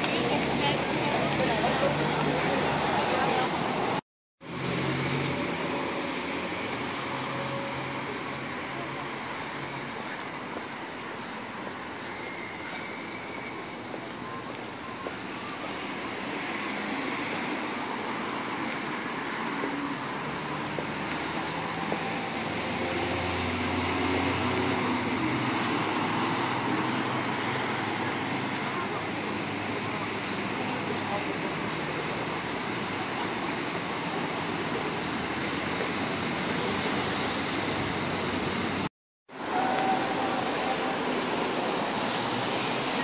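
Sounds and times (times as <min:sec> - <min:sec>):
cars driving past: 0:00.0 - 0:43.0.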